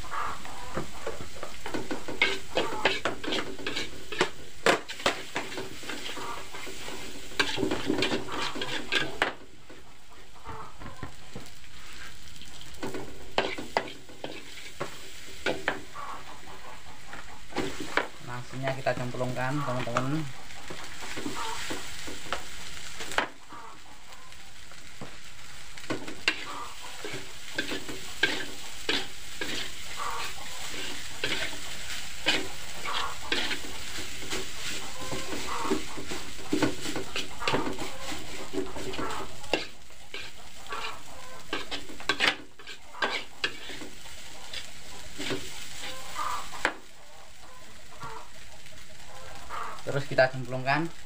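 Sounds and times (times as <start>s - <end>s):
metal spatula scraping wok: 0.0s - 10.9s, 11.7s - 23.8s, 25.5s - 48.8s
rice sizzling in wok: 0.0s - 51.0s.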